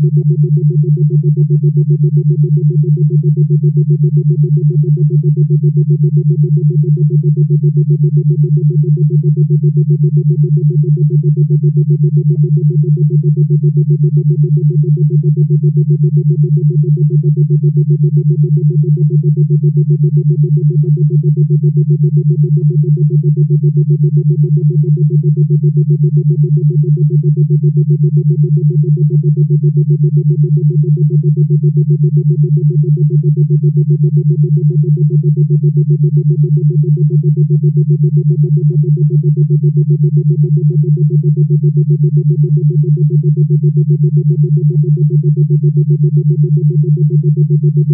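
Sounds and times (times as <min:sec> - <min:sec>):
pulsing synthesized low tone: 0:00.0 - 0:47.9.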